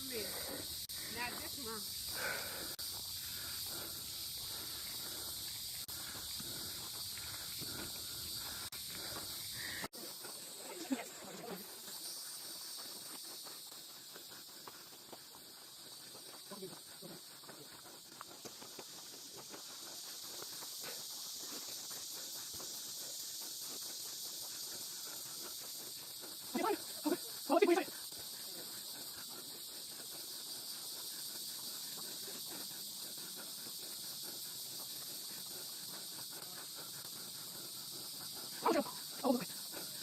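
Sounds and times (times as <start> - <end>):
insects chorus: 0.0 - 40.0.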